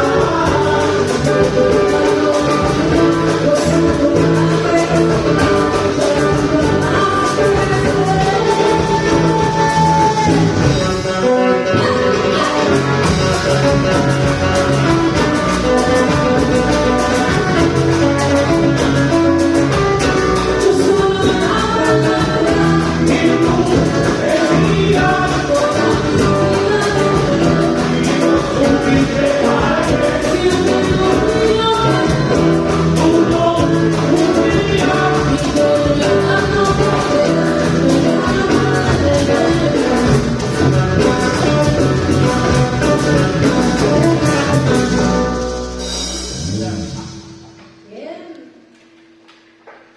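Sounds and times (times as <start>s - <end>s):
steady percussion beat: 0.0s - 11.1s, 12.0s - 48.2s
person singing: 0.0s - 45.8s
pop band accompaniment: 0.0s - 48.6s.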